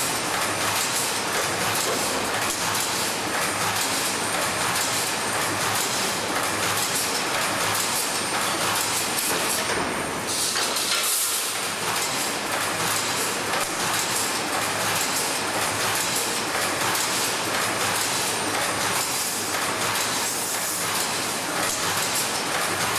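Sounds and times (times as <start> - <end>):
welding machine clatter: 0.0 - 22.9.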